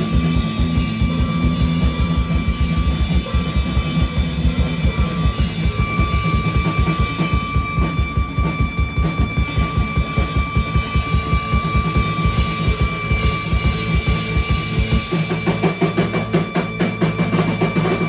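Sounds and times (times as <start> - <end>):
drum rolls: 0.0 - 18.0
live band playing: 0.0 - 18.0
steady high tone: 0.0 - 18.0.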